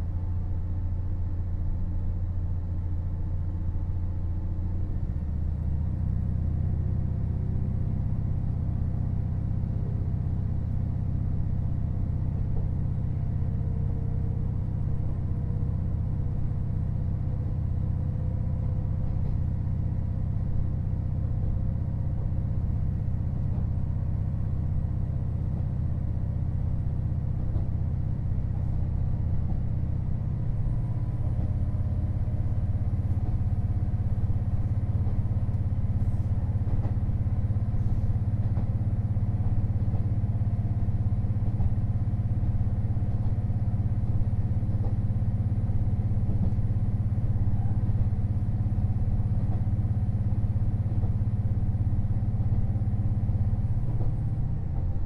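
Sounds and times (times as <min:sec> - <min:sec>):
diesel railcar engine droning: 0:00.0 - 0:55.0.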